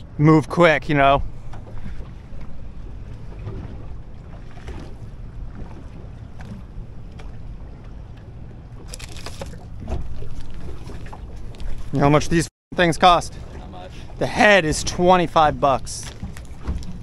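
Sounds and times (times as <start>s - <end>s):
boat low rumble: 0.0s - 17.0s.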